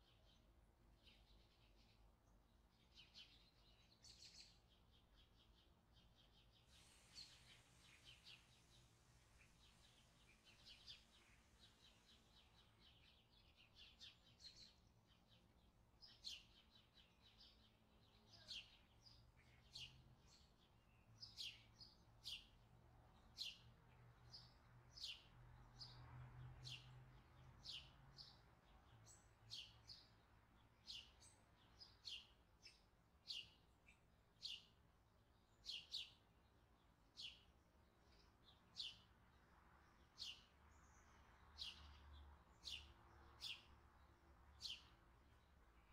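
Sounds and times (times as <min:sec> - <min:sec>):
small bird chirping: 0:00.0 - 0:22.6, 0:26.6 - 0:39.2, 0:39.9 - 0:45.9.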